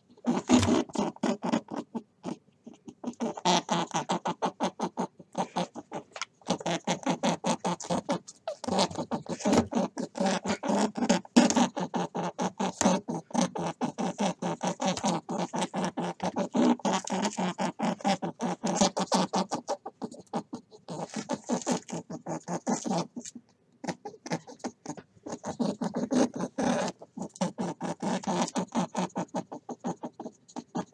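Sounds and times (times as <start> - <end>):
rabbit clicking pulses: 0.0 - 30.9.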